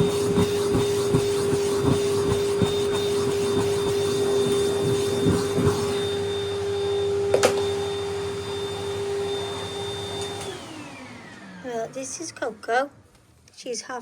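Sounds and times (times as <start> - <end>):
vacuum cleaner running: 0.0 - 13.1.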